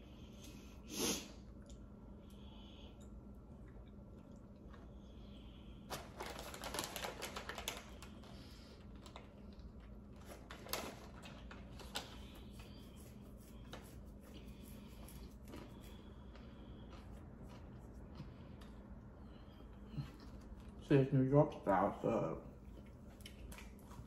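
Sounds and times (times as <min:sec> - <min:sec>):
crunchy chewing of a sandwich: 0:01.4 - 0:20.8, 0:22.5 - 0:24.0.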